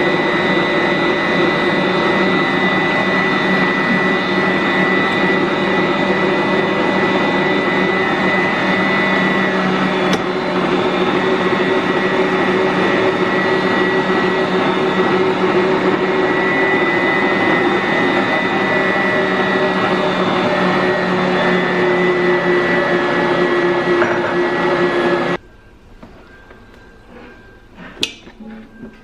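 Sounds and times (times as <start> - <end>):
electric kitchen mixer whirring: 0.0 - 25.4.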